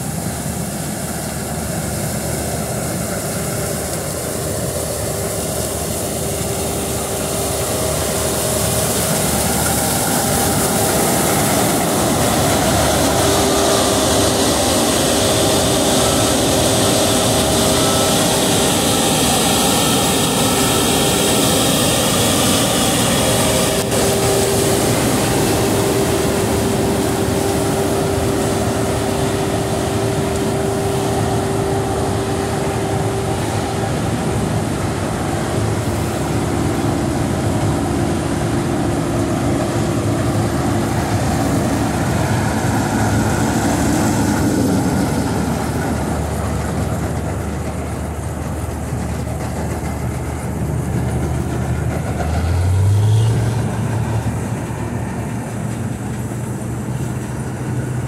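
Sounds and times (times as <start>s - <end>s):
combine harvesters droning: 0.0s - 58.0s.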